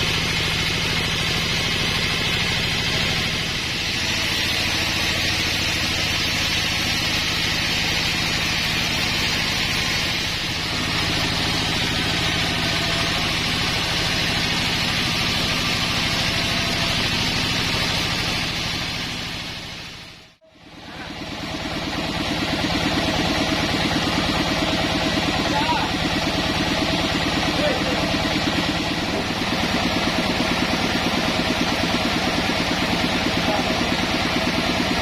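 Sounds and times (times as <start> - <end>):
sawmill engine with hiss: 0.0 - 35.0.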